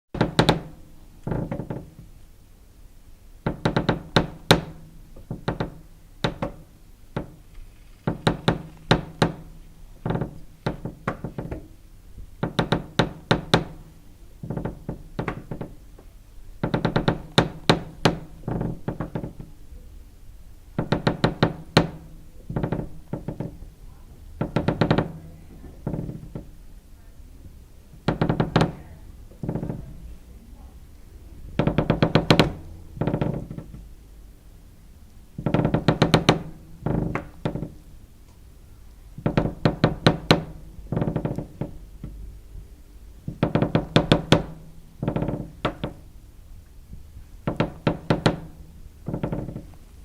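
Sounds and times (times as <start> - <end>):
wooden floorboards creaking: 0.1 - 2.1, 3.4 - 20.0, 20.7 - 26.6, 27.9 - 30.7, 31.4 - 34.0, 35.3 - 37.9, 39.2 - 42.6, 43.2 - 46.2, 46.9 - 50.0.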